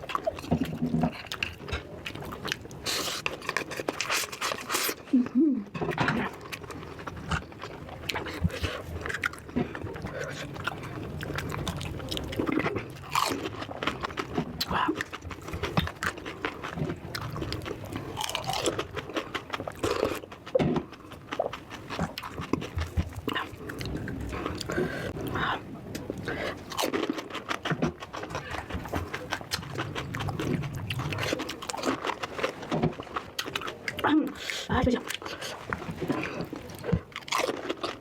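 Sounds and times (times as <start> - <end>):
chewing crunchy food: 0.0 - 38.0.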